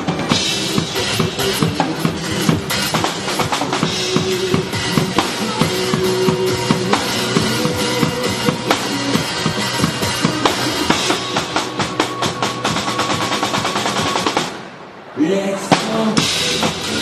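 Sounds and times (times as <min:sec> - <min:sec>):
pop backing track: 0:00.0 - 0:14.5
drum kit playing: 0:00.0 - 0:14.6, 0:15.7 - 0:17.0.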